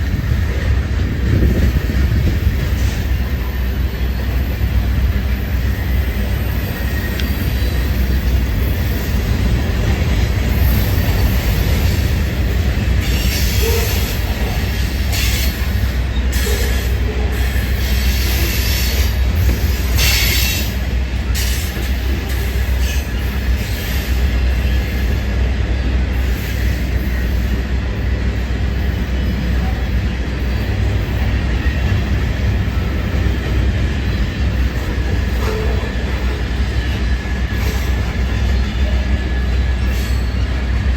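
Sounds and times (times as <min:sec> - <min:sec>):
freight train rumbling on rails: 0:00.0 - 0:40.9.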